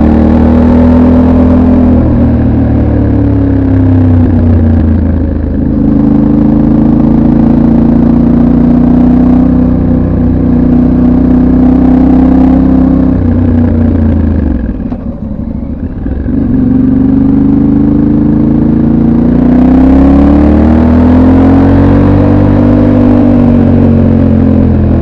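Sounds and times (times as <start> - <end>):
motorcycle engine under way: 0.0 - 25.0.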